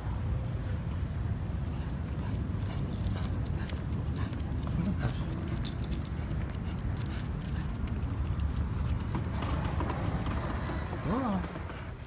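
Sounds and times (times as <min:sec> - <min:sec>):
metal jingling: 0:00.0 - 0:11.2
steady low rumble: 0:00.0 - 0:12.0.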